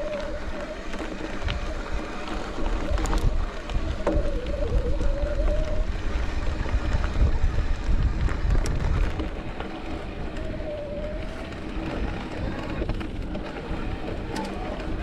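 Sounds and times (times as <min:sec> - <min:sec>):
bike rattles and clicks: 0:00.0 - 0:15.0
bike tyre rumble on rough trail: 0:00.0 - 0:15.0
faint whine: 0:00.0 - 0:15.0
wind buffeting microphone: 0:00.0 - 0:15.0.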